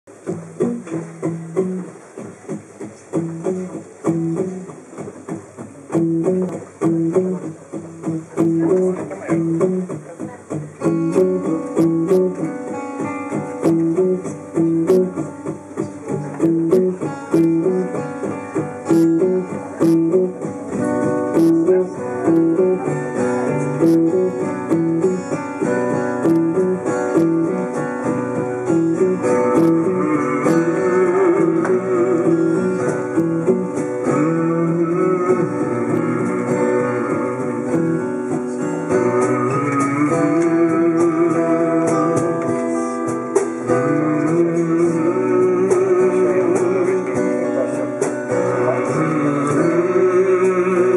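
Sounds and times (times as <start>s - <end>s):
acoustic guitars playing: 0.0s - 50.9s.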